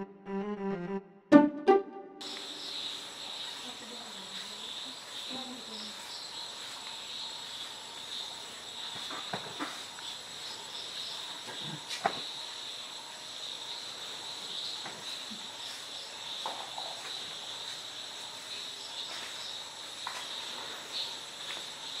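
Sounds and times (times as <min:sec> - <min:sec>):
insects trilling: 0:02.2 - 0:22.0.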